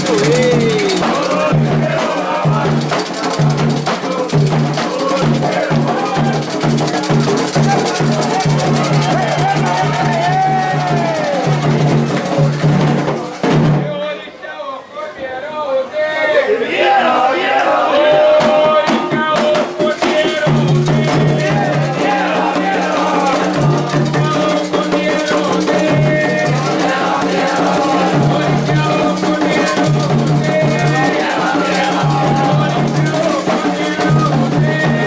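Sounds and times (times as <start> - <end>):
shaken rattles: 0.0 - 13.8, 19.2 - 35.0
hand drums: 0.0 - 13.9, 18.0 - 35.0
voices chanting: 0.0 - 35.0.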